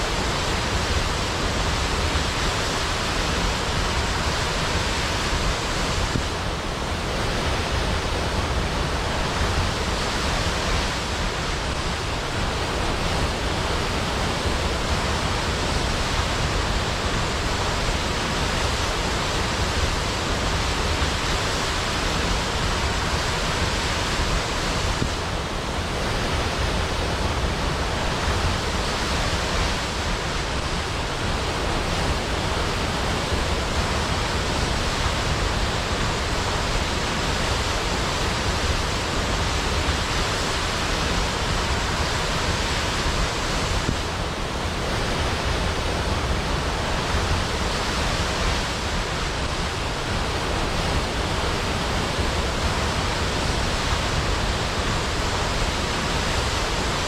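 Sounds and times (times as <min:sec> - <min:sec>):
waterfall roar: 0:00.0 - 0:57.0.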